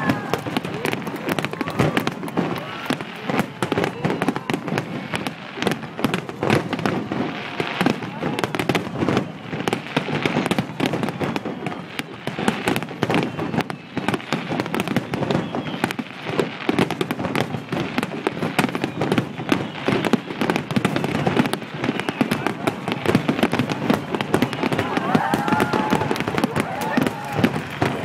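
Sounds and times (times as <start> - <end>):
firework booms: 0.0 - 28.0
firework crackles: 0.0 - 28.0.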